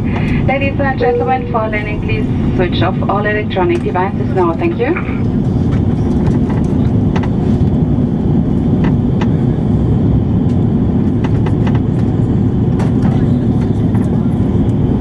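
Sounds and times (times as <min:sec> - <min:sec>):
jet engines rumble and hiss: 0:00.0 - 0:15.0.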